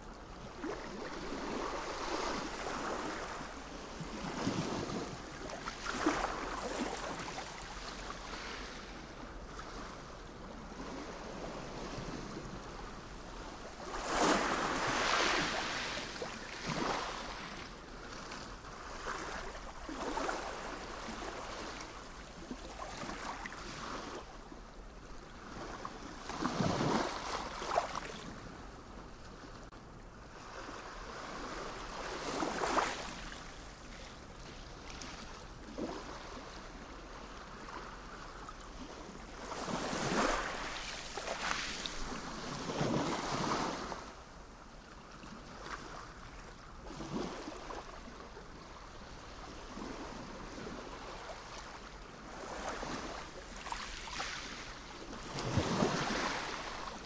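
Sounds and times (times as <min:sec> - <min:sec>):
sea waves breaking on shore: 0:00.2 - 0:44.6, 0:45.3 - 0:57.0.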